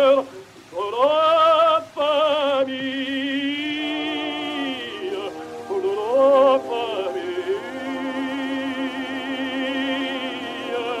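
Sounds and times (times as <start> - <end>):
operatic singing with vibrato: 0.0 - 11.0
record surface hiss: 0.0 - 11.0.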